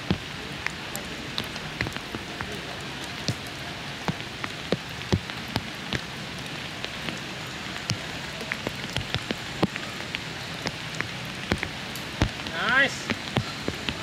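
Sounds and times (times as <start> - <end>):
raindrops tapping close by: 0.0 - 14.0
steady rain hissing: 0.0 - 14.0.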